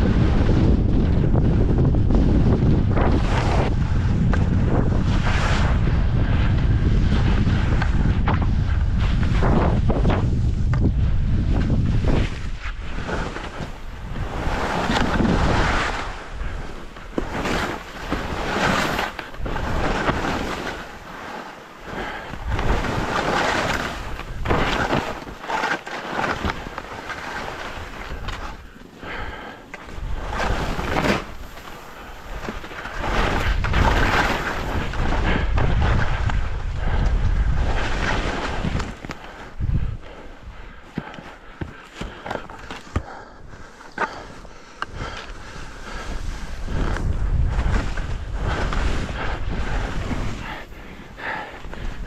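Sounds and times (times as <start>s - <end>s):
wind buffeting microphone: 0.0s - 21.1s, 21.8s - 25.4s, 26.4s - 40.9s, 44.8s - 52.0s
skis rushing over snow: 0.0s - 40.3s, 40.9s - 52.0s.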